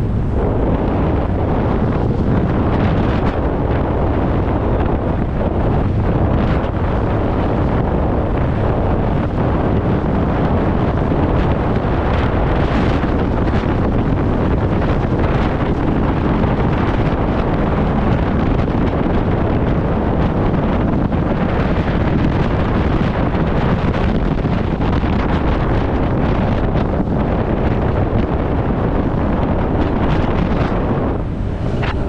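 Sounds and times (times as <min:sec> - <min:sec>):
outboard motor: 0:00.0 - 0:32.0
water noise: 0:00.0 - 0:32.0
wind rushing over microphone: 0:00.0 - 0:32.0.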